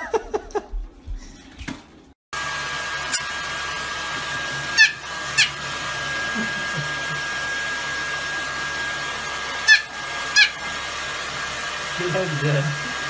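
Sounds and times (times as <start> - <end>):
hair dryer running: 2.3 - 13.0.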